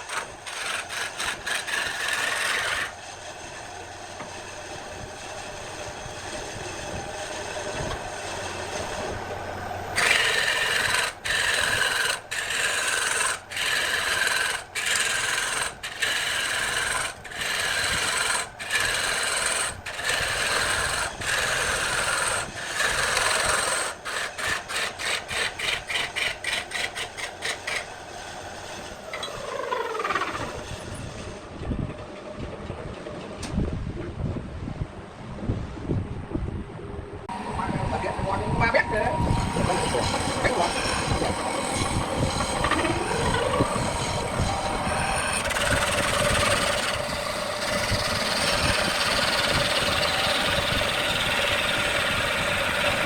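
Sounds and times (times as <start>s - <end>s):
lathe tool rasping wood: 0.0s - 31.2s, 37.3s - 53.0s
lathe winding down: 0.0s - 31.3s, 37.3s - 53.0s.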